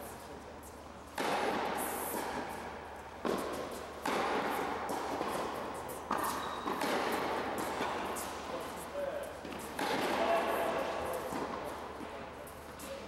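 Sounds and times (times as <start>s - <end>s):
tennis racket hitting ball: 1.1s - 13.0s.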